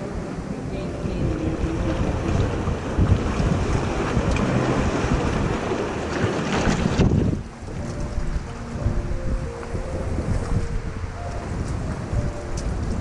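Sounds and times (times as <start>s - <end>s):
sea water washing among rocks: 0.0s - 13.0s
wind buffeting microphone: 0.0s - 13.0s.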